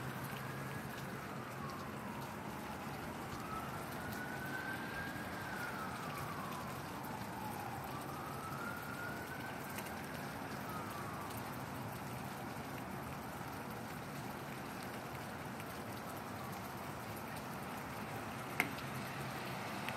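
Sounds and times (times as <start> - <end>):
emergency vehicle siren wailing: 0.0 - 19.9
rain falling: 0.0 - 19.9.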